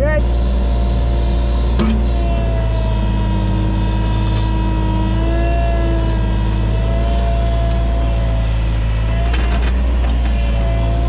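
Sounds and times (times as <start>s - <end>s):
excavator engine hum and whine: 0.0s - 11.0s.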